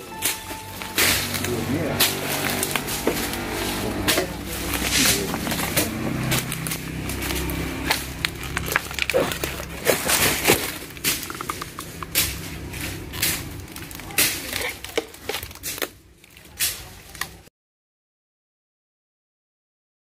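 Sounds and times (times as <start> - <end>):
footsteps crunching through dry leaves: 0.0 - 17.4
sharp cracks and knocks: 0.2 - 17.4.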